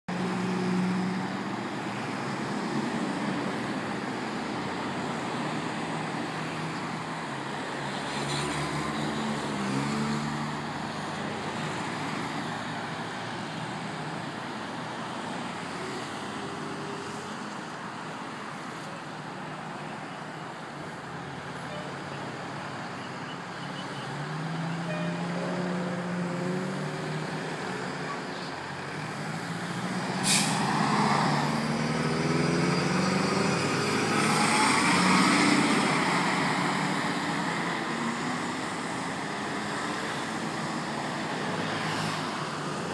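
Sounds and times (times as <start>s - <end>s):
cars passing by: 0.1s - 42.9s.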